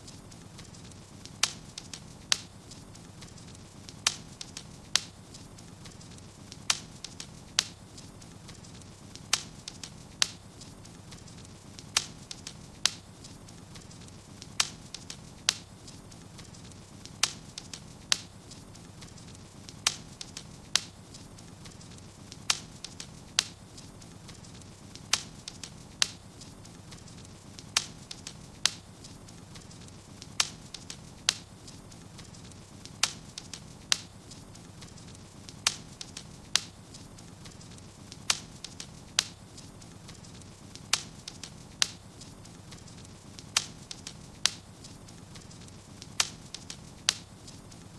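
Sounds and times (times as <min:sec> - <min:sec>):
sharp pops of fire: 0:00.0 - 0:47.9
wood fire crackling: 0:00.0 - 0:47.9.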